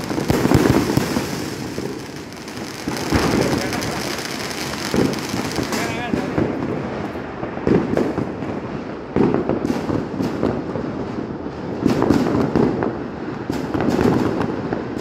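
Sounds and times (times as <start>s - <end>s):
firecrackers and fireworks banging: 0.0s - 15.0s.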